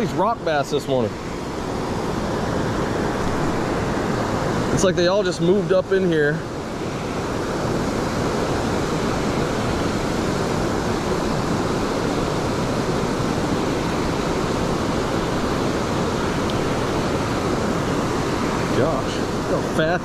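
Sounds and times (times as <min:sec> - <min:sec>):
water rushing over spillway: 0:00.0 - 0:20.0.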